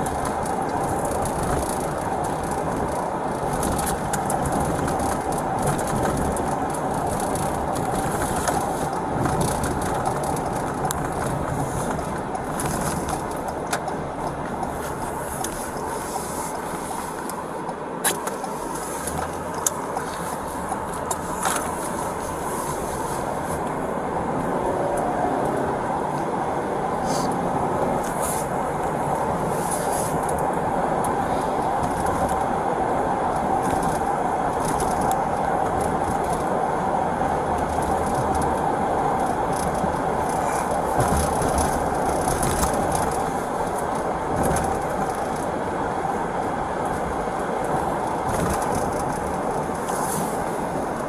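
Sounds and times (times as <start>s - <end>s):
faint clicks and rustles: 0.0s - 51.0s
road and engine noise in car: 0.0s - 51.0s.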